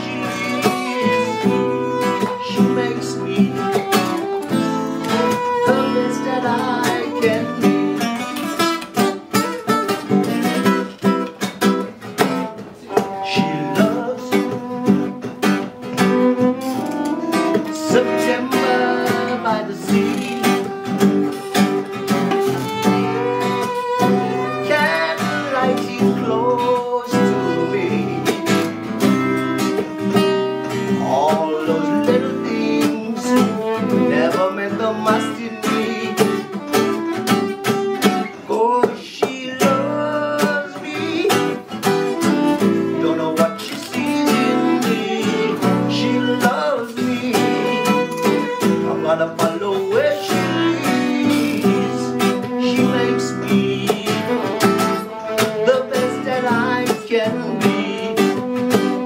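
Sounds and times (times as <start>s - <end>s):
fiddle melody with slides: 0.0s - 38.9s, 39.7s - 59.0s
acoustic guitar strumming chords: 0.0s - 59.0s.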